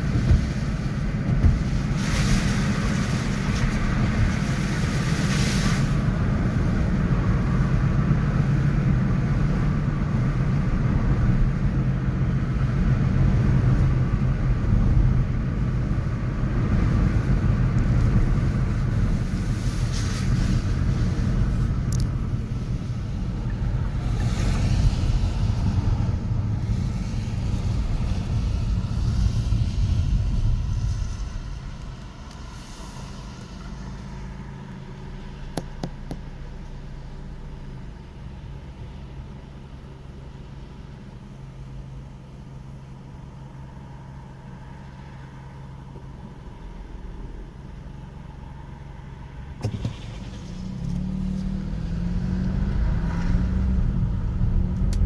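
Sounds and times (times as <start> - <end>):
cars passing: 0.0 - 37.7, 43.7 - 55.0.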